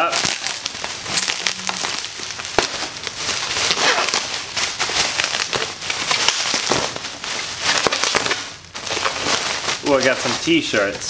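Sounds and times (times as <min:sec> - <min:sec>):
bubble wrap crinkling: 0:00.0 - 0:11.0
rustling against cardboard box: 0:00.0 - 0:11.0.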